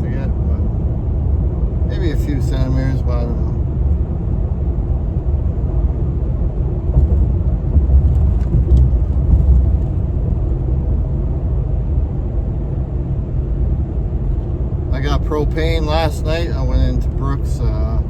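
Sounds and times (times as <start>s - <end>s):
truck engine and tyres rumbling: 0.0s - 18.0s.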